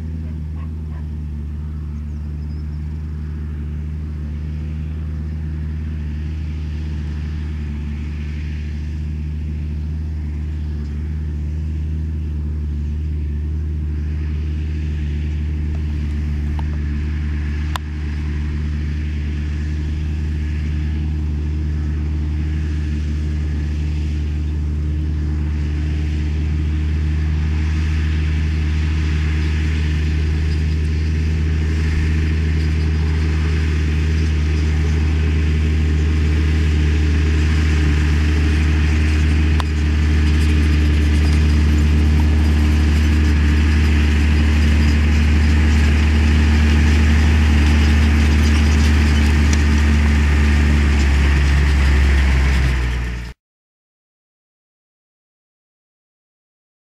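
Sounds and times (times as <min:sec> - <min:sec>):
tractor diesel engine under load: 0:00.0 - 0:53.4.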